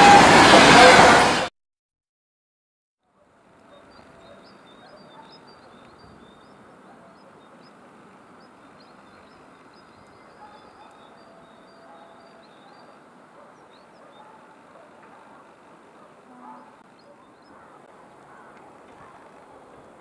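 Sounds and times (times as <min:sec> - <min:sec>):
birds chirping: 0:03.6 - 0:19.6.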